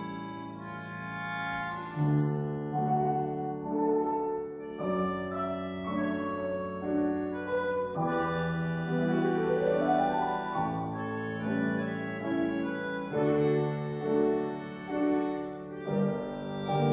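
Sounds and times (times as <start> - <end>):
concertina playing chords: 0.0 - 16.9.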